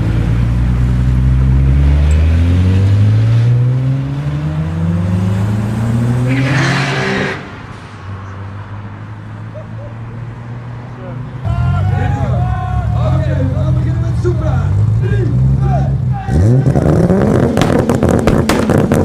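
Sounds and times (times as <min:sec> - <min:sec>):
car engine accelerating: 0:00.0 - 0:07.7, 0:09.8 - 0:19.0.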